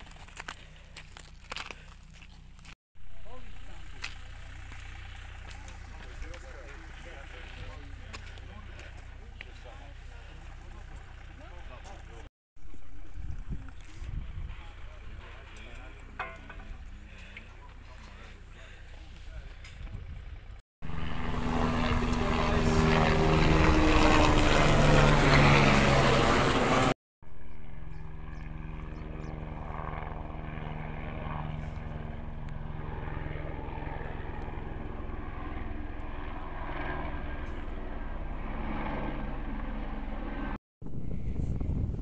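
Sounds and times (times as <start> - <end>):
helicopter rotor and engine: 0.0 - 42.0.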